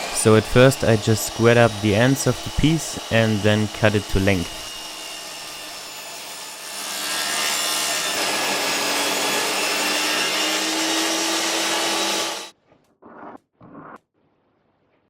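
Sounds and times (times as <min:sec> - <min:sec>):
power saw cutting wood: 0:00.0 - 0:12.5.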